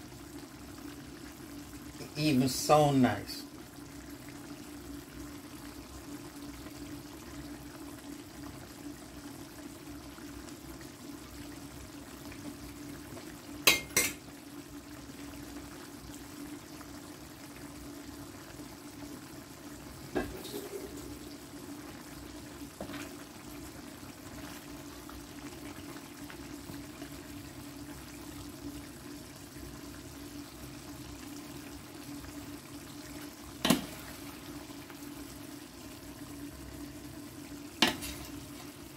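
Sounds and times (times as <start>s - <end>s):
sauce bubbling: 0.0s - 38.9s.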